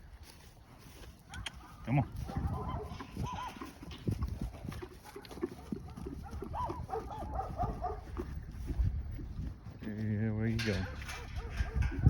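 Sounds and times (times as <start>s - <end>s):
horse hooves thudding: 0.0s - 12.0s.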